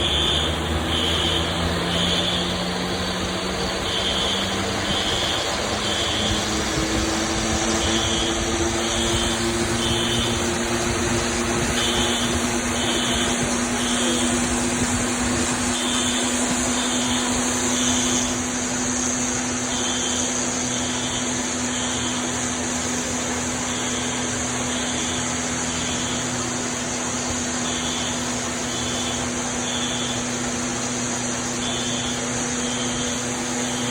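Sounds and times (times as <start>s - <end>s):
fire alarm beeping: 0.0s - 18.6s, 19.6s - 22.5s, 23.4s - 26.6s, 27.4s - 33.9s.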